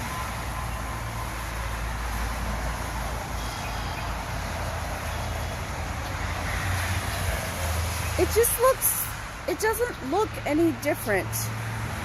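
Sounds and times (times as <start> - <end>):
distant highway traffic: 0.0 - 12.0.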